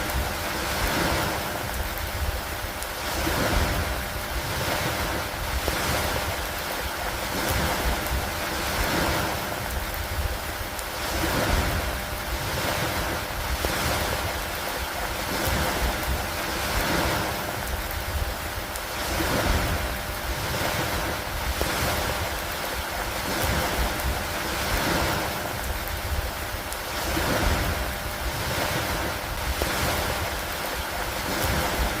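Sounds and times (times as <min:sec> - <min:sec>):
rain hiss: 0:00.0 - 0:32.0
water washing like waves: 0:00.0 - 0:32.0.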